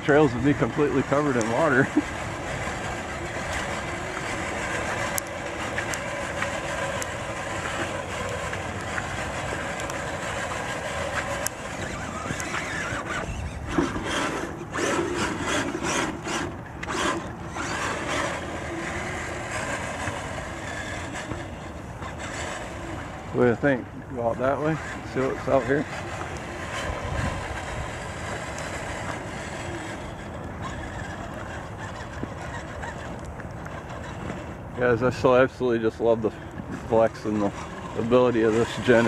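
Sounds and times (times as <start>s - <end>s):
electric motor whining: 0.0s - 39.0s.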